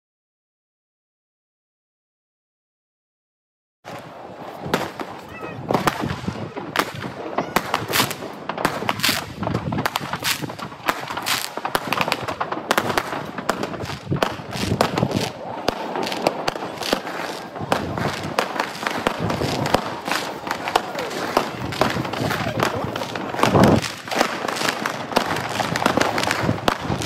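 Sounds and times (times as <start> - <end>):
fireworks bangs and crackles: 3.9 - 27.0
loud firework bangs: 3.9 - 27.0.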